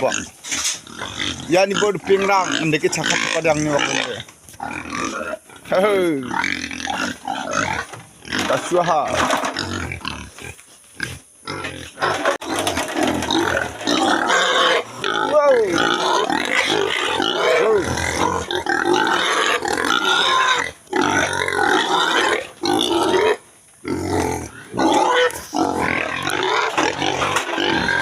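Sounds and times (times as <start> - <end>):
pigs squealing and grunting: 0.0 - 28.0.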